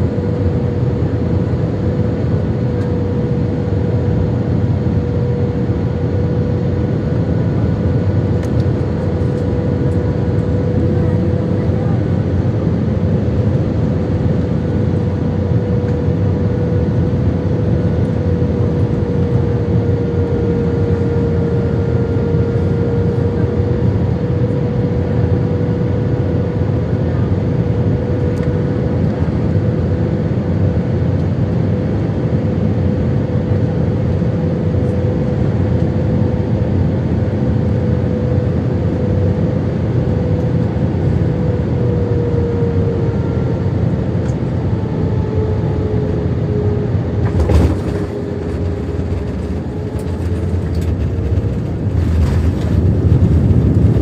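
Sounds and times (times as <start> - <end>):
engine and airflow rush: 0.0 - 54.0.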